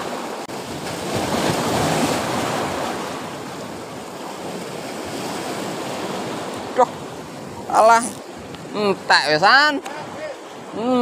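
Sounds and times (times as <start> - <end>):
waves washing against concrete: 0.0 - 11.0.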